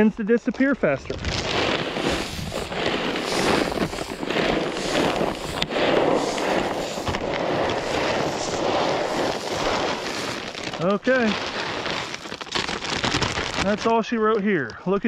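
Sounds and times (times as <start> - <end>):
corn pattering onto dry grass: 1.1 - 14.6.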